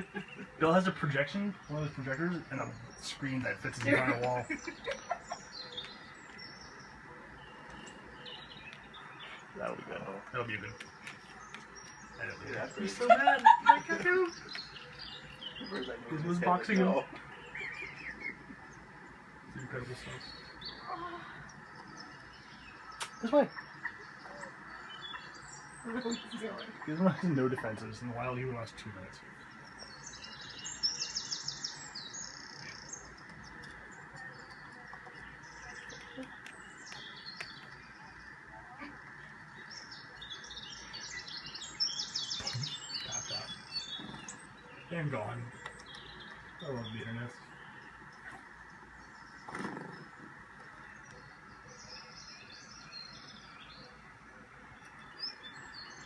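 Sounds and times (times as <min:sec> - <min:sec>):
recorded birdsong through speakers: 0:00.0 - 0:56.0.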